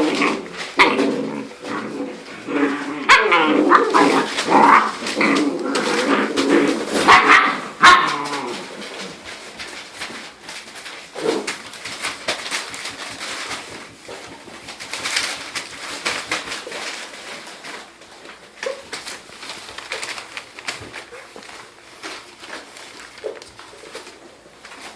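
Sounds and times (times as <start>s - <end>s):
puppies scuffling with clicks: 0.0s - 24.9s.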